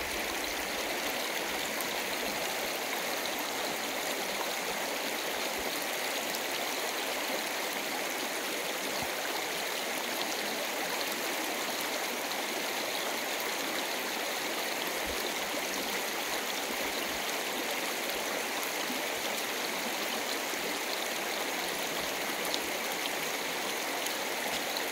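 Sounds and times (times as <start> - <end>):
river water over stones: 0.0 - 24.9.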